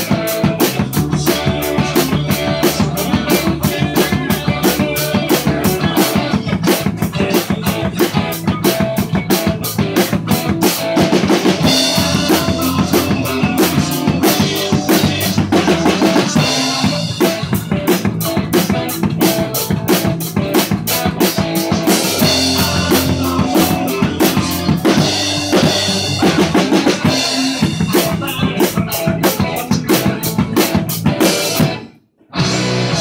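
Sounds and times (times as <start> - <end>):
drum kit beat: 0.0 - 33.0
electric guitar chords: 0.0 - 33.0.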